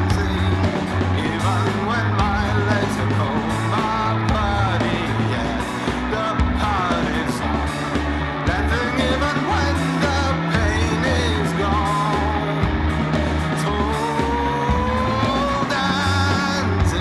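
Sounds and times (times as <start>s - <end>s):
indie rock song: 0.0s - 17.0s.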